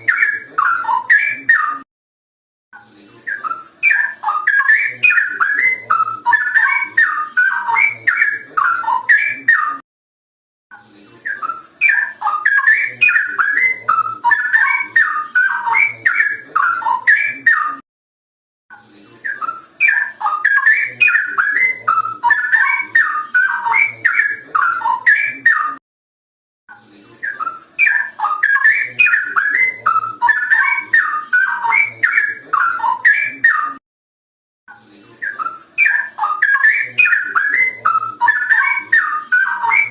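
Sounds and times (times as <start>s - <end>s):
bird warbling whistled song: 0.0s - 1.8s, 3.3s - 9.8s, 11.2s - 17.8s, 19.2s - 25.8s, 27.2s - 33.8s, 35.2s - 39.9s.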